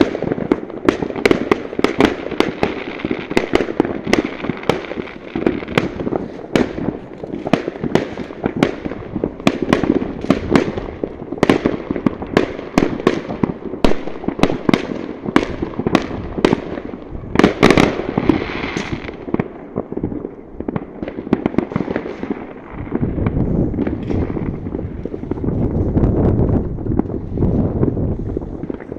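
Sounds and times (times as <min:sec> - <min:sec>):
distant fireworks booms: 0:00.0 - 0:28.9
fireworks cracking and banging: 0:00.0 - 0:28.9.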